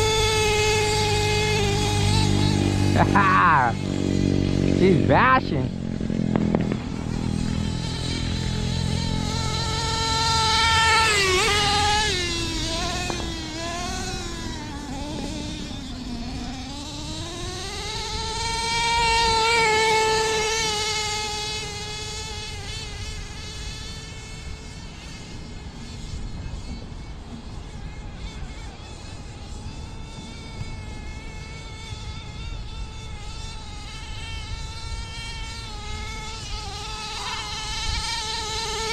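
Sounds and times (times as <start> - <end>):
rc truck engine buzzing: 0.0 - 38.9.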